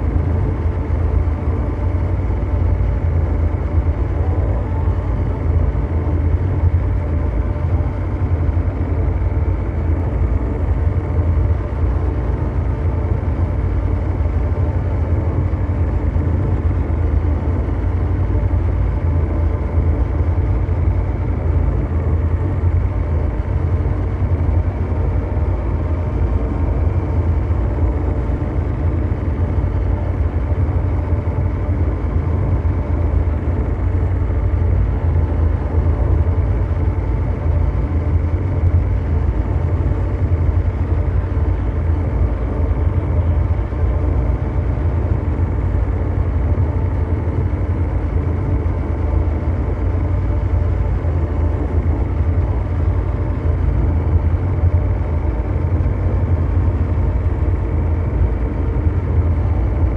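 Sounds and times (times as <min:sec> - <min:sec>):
deep mechanical drone: 0:00.0 - 0:59.9
faint hum tones: 0:00.0 - 0:59.9.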